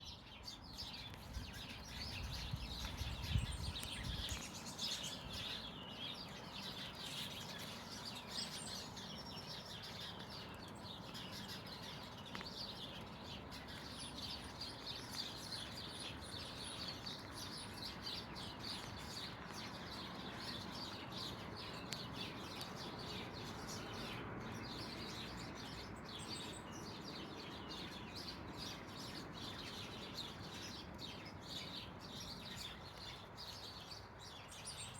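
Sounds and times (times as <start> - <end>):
songbirds singing and chirping: 0.0 - 34.9.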